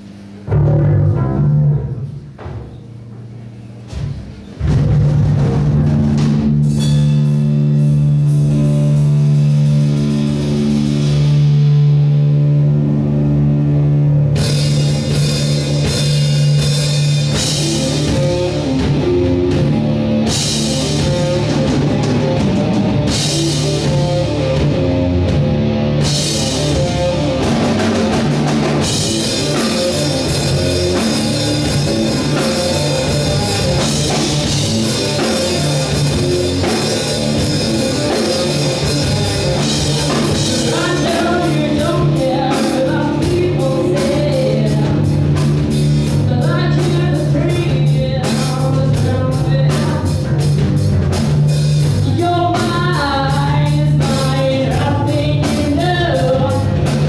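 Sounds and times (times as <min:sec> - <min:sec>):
bass guitar: 0:00.0 - 0:57.0
drums and cymbals: 0:03.8 - 0:57.0
electric guitar: 0:04.7 - 0:57.0.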